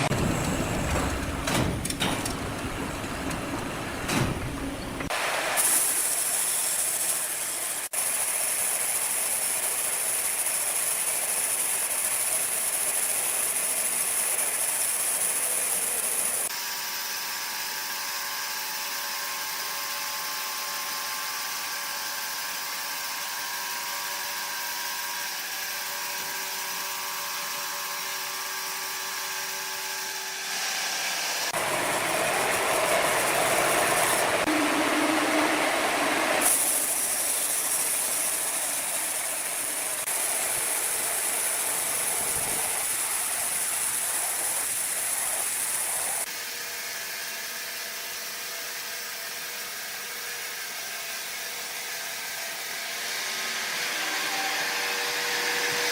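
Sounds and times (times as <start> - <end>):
woodworking machinery running: 0.0 - 46.3, 47.0 - 55.9.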